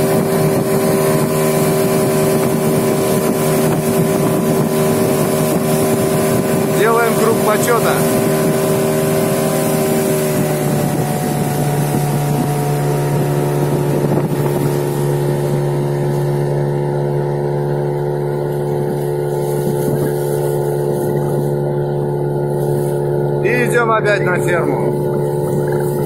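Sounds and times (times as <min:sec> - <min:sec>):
wind noise on microphone: 0:00.0 - 0:23.7, 0:24.4 - 0:26.0
outboard motor humming: 0:00.0 - 0:26.0.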